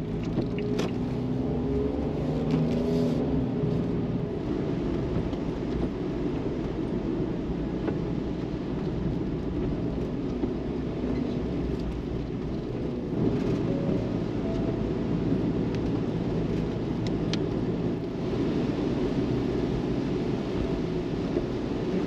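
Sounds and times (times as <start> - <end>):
road and engine rumble in van: 0.0 - 22.0.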